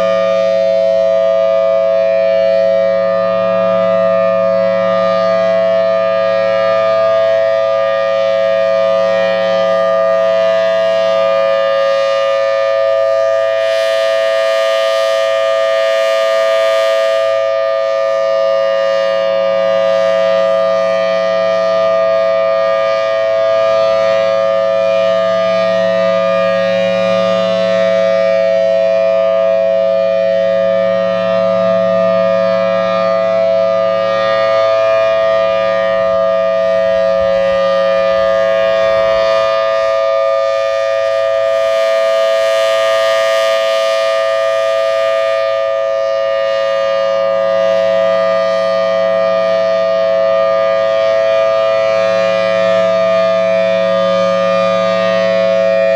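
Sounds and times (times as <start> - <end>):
outdoor warning siren: 0.0 - 55.9.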